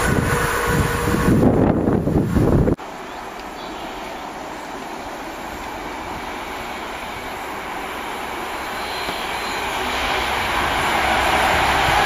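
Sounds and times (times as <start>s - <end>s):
diesel locomotive approaching: 0.0s - 12.0s.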